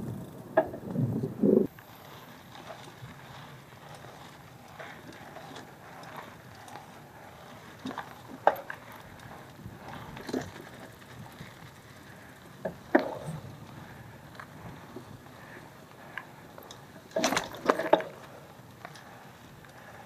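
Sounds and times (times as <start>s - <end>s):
bike clunks and rattles: 1.6s - 20.0s.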